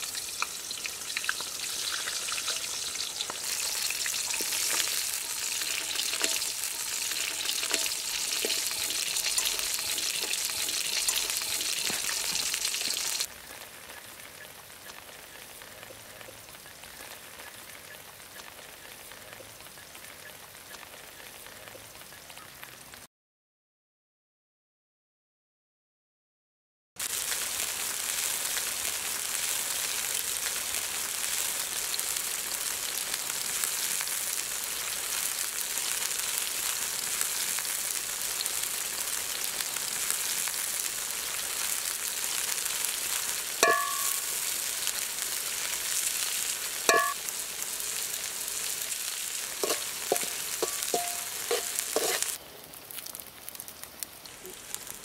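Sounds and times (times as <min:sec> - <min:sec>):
food sizzling in hot oil: 0:00.0 - 0:23.1, 0:27.0 - 0:55.0.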